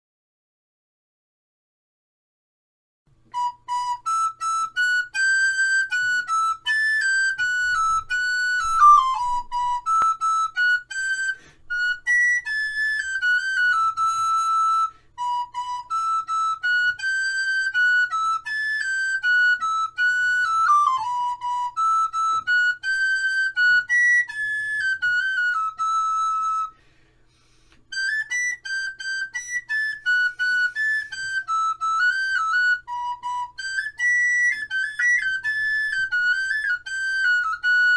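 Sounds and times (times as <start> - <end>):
solo flute melody: 3.1 - 37.9.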